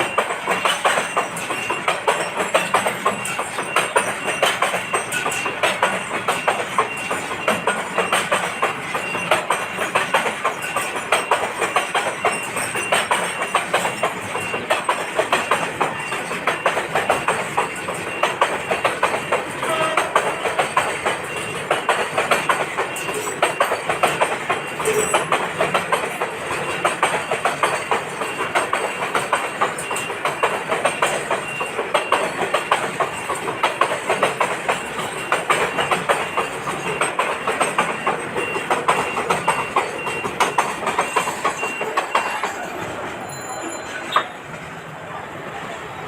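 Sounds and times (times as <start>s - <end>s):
train wheels clattering over rails: 0.0s - 45.5s.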